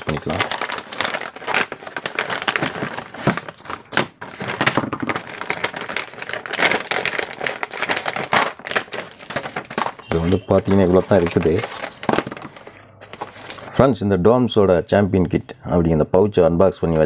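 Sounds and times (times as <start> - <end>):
plastic pouch rustling: 0.0 - 13.7.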